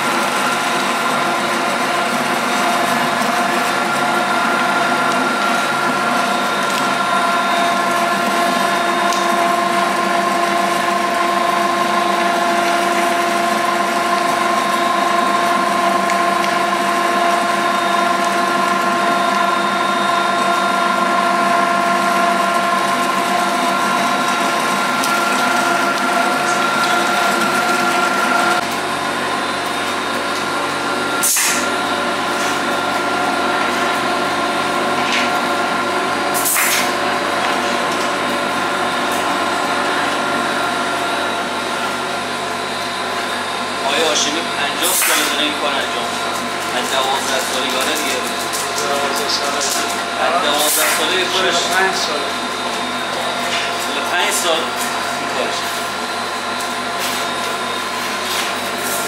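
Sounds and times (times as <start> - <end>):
meat grinder motor whine: 0.0 - 59.0.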